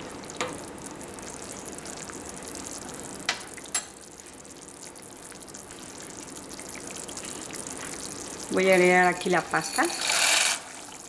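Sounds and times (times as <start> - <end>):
water boiling in a pot: 0.0 - 11.0.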